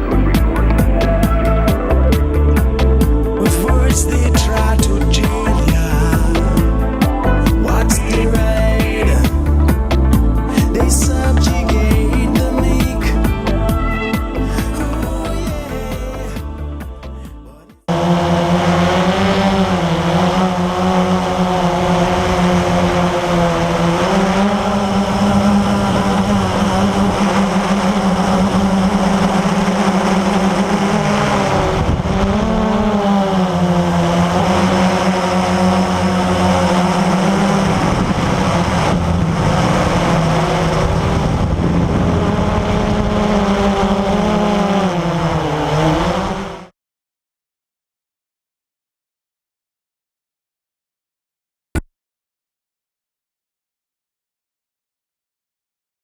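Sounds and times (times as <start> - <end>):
quadcopter motors humming: 0.0 - 46.7.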